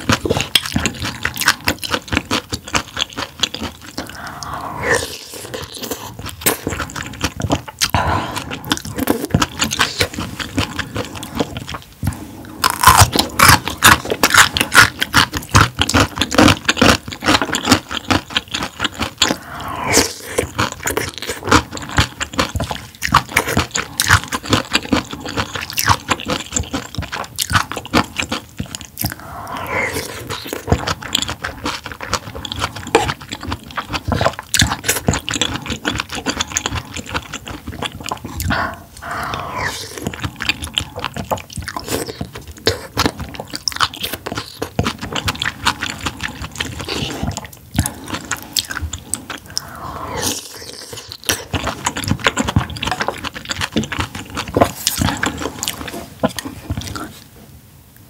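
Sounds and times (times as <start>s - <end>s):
person chewing food: 0.0s - 57.4s.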